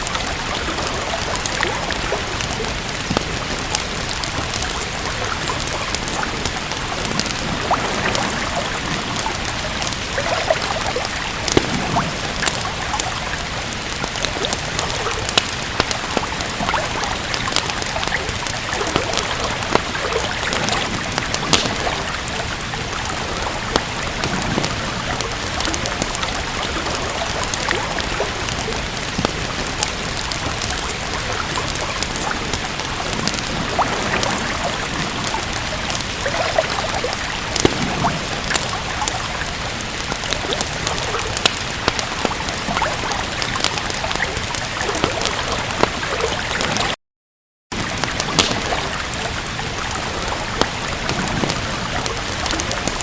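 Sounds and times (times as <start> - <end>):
steady rain: 0.0 - 47.0, 47.7 - 53.0
wood fire crackling: 0.0 - 47.0, 47.7 - 53.0.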